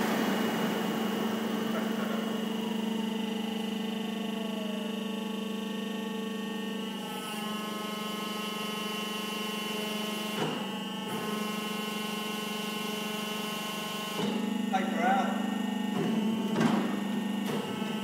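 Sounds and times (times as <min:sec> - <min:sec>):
hydraulic power unit humming: 0:00.0 - 0:18.0.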